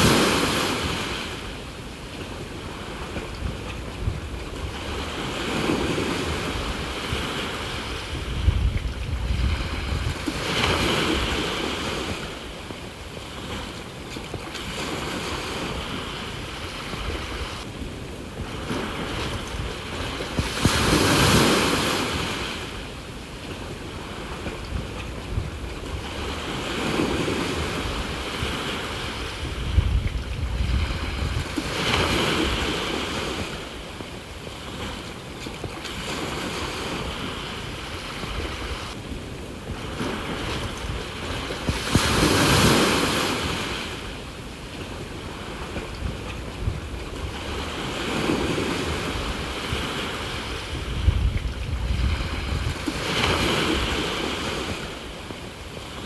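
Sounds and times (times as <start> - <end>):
sea waves breaking on shore: 0.0 - 56.0
wind buffeting microphone: 0.0 - 56.0.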